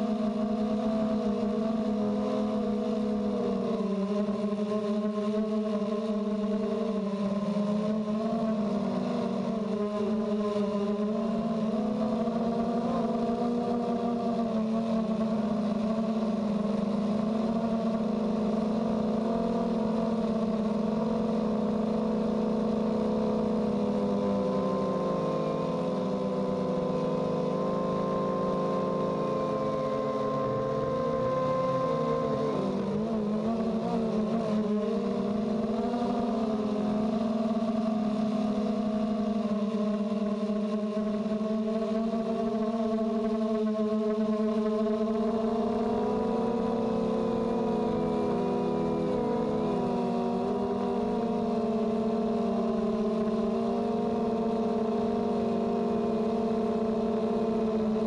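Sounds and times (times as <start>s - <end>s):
quadcopter motors buzzing: 0.0s - 58.0s.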